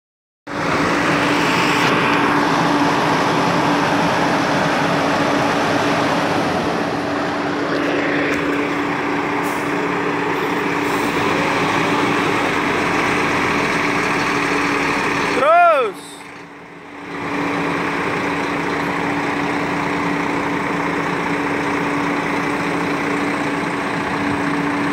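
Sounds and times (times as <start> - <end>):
heavy diesel truck engine running: 0.5 - 24.9.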